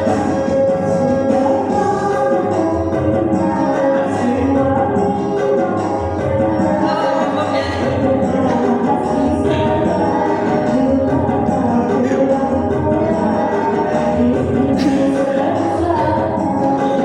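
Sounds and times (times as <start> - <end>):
backing track with bass beat: 0.0 - 17.0
woman singing pop song: 0.0 - 17.0.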